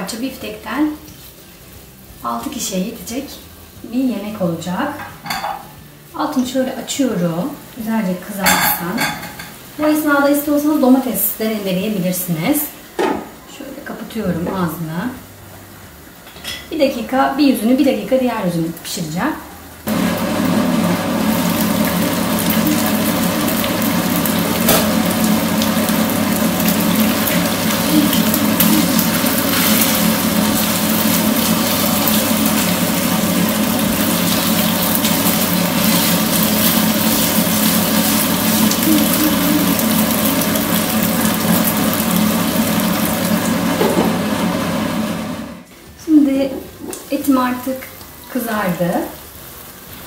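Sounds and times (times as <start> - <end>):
meat sizzling in a frying pan: 0.1 - 12.8, 19.8 - 44.9, 46.6 - 50.0.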